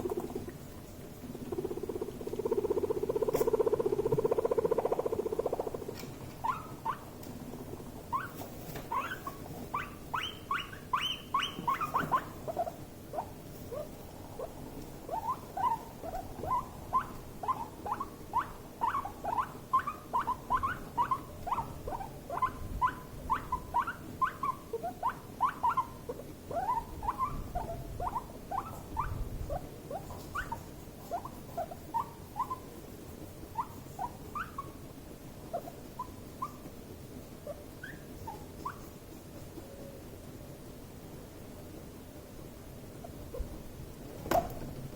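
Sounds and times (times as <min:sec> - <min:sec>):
guinea pigs squeaking: 0:00.0 - 0:40.2, 0:42.9 - 0:44.6.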